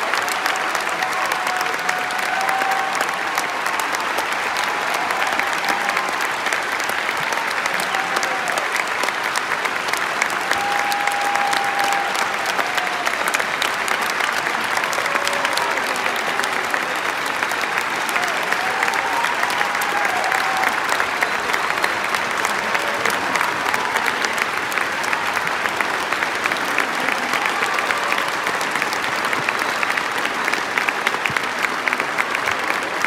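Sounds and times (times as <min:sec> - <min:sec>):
audience applauding: 0:00.0 - 0:33.0
cheering calls: 0:00.0 - 0:33.0.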